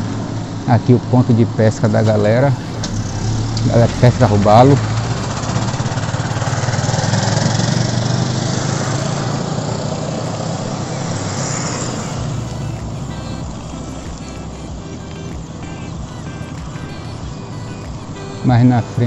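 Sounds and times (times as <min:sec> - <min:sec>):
motorcycle engine passing: 0:02.0 - 0:19.0.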